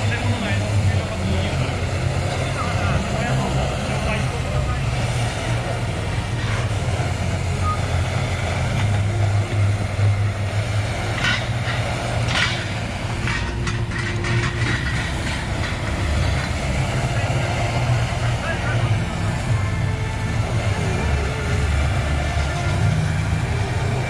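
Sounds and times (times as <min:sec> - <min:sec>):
heavy vehicle engine droning: 0:00.0 - 0:24.0.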